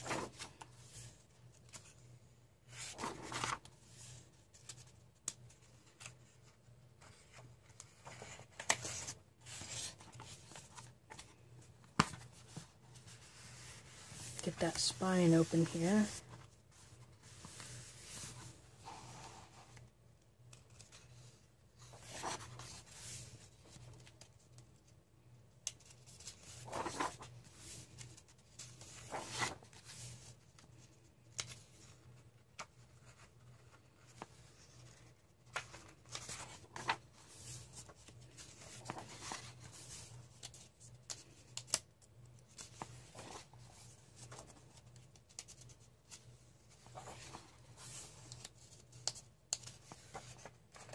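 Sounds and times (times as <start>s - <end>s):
paper pages rustling: 0.0s - 2.0s, 2.6s - 19.9s, 20.5s - 24.9s, 25.7s - 50.9s.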